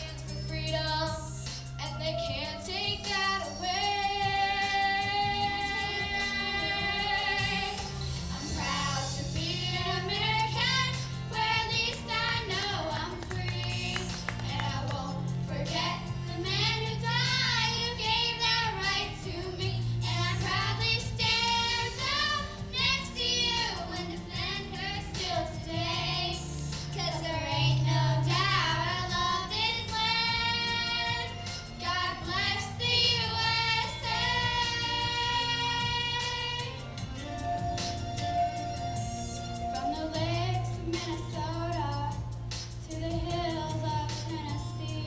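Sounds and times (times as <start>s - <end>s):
girls singing into microphones: 0.0s - 37.1s, 39.7s - 45.0s
instrumental accompaniment: 0.0s - 45.0s.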